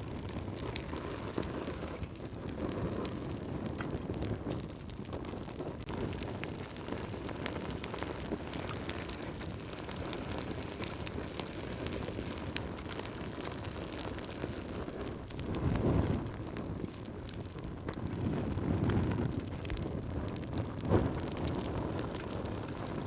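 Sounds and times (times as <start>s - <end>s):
fire crackling and popping: 0.0s - 23.0s
low rumble of flames: 0.0s - 23.0s.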